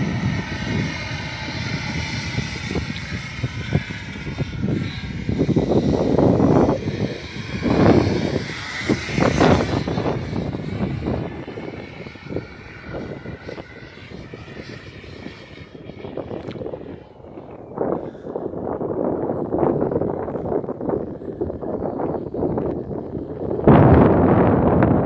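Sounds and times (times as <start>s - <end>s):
rushing noise: 0.0s - 20.4s
jet aircraft engine whine: 0.0s - 25.0s.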